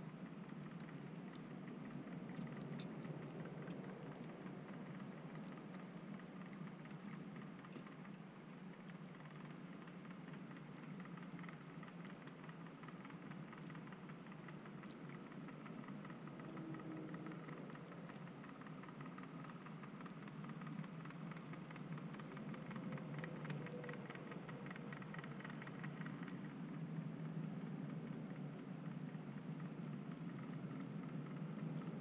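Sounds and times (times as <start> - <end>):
model train motor hum and clicking: 0.0 - 32.0.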